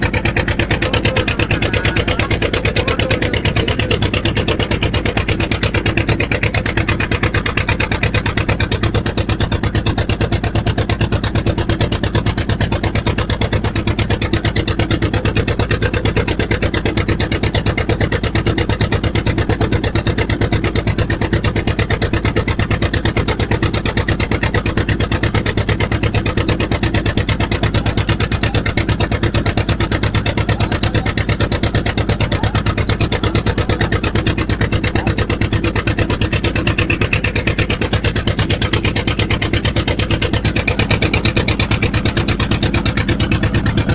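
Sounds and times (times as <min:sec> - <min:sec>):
boat engine chugging: 0:00.0 - 0:43.9.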